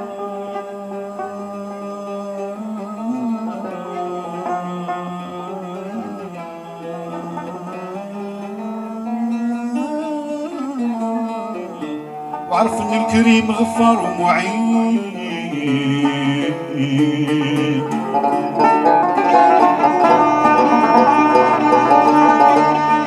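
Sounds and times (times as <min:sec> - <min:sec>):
plucked string instruments melody: 0:00.0 - 0:23.0.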